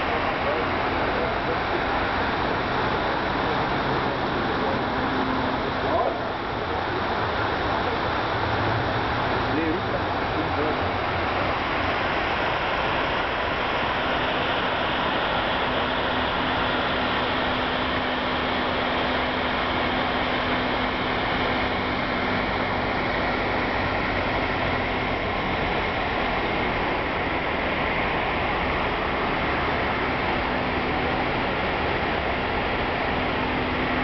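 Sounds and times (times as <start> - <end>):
fountain water splashing: 0.0 - 34.0.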